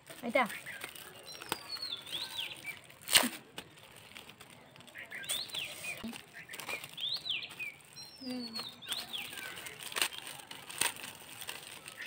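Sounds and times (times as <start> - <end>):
wrapping paper crinkling: 0.0 - 12.0
songbird singing: 0.2 - 10.4.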